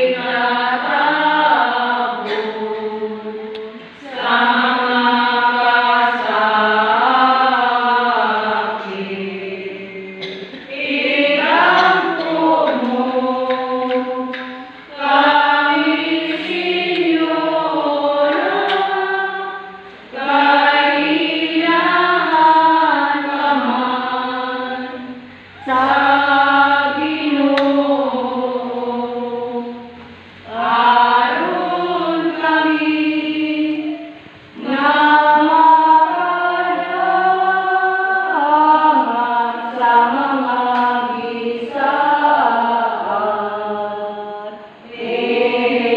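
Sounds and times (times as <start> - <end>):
congregation singing a chant: 0.0 - 45.9.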